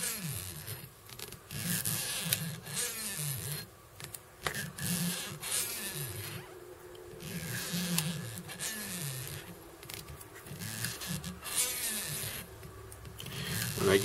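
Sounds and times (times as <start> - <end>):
faint low wavering hum: 0.0 - 14.0.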